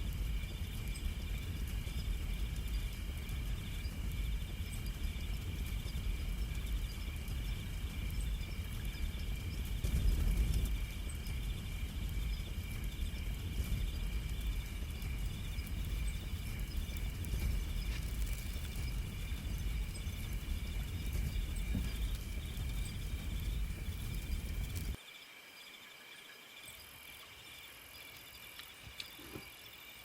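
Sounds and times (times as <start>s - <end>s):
wind rumble on microphone: 0.0s - 25.0s
crickets trilling: 0.0s - 30.0s.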